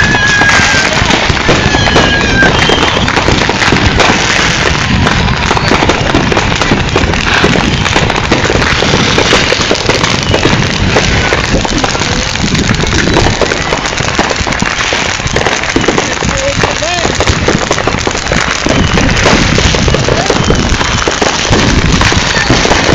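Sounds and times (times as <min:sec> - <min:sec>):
fireworks crackling: 0:00.0 - 0:22.9.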